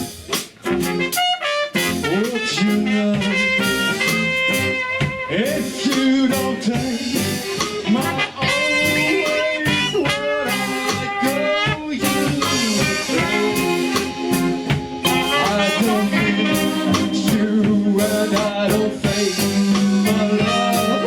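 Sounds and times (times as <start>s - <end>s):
band playing instrumental: 0.0s - 21.0s
drums: 0.0s - 21.0s
horn melody: 0.0s - 21.0s.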